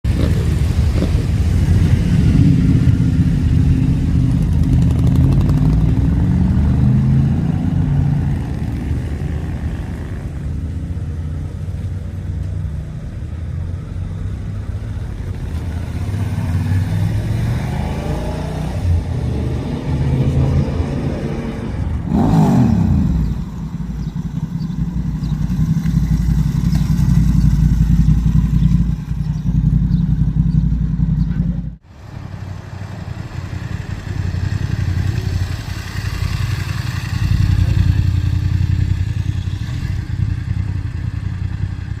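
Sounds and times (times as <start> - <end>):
motorcycle passing close: 0.1 - 12.3, 13.6 - 42.0
motorcycle engines running: 0.1 - 42.0.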